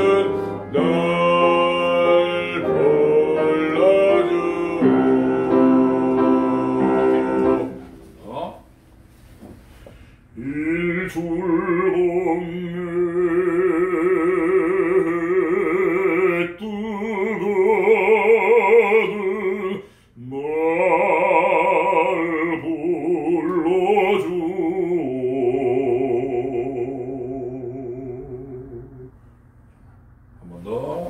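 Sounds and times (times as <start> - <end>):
man singing opera: 0.0 - 8.5, 10.3 - 29.2, 30.4 - 31.0.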